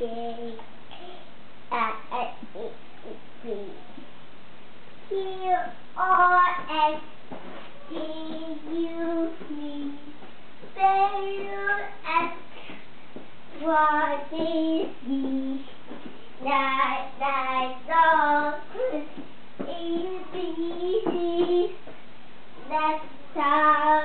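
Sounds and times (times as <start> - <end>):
young boy singing: 0.0 - 3.8, 5.1 - 12.5, 13.5 - 21.8, 22.6 - 24.0.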